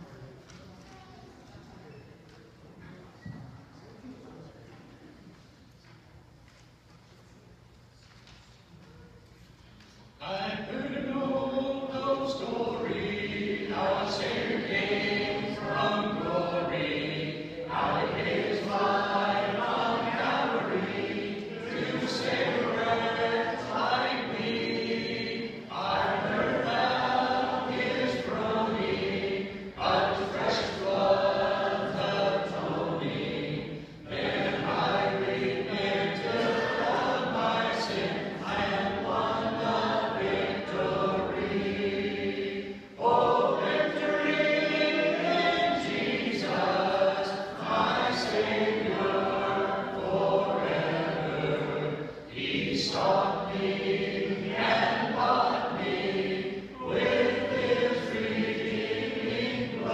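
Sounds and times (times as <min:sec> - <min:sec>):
congregation singing a hymn: 0:10.1 - 0:59.9.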